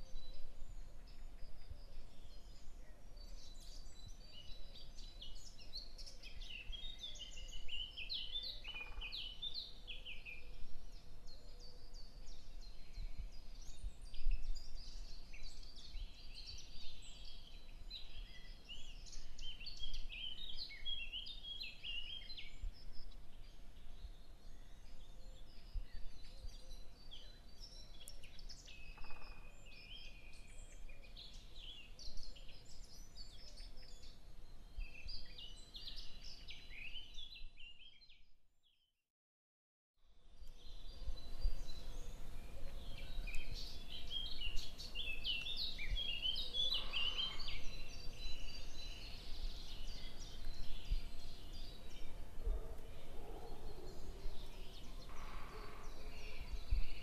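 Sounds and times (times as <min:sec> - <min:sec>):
small birds chirping: 0:00.0 - 0:38.3, 0:40.4 - 0:57.0.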